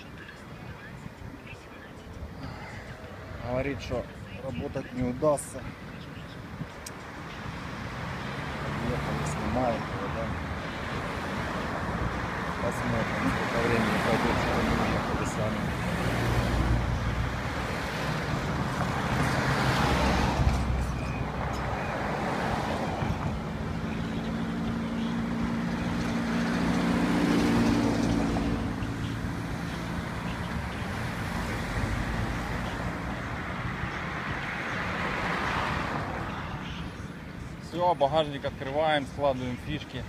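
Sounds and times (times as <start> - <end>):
motor vehicles passing: 0.0 - 40.0.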